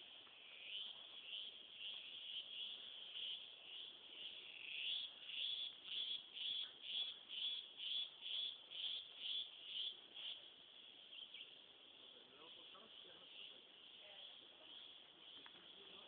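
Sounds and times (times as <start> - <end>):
insects chorus pulsing: 0.0 - 16.0.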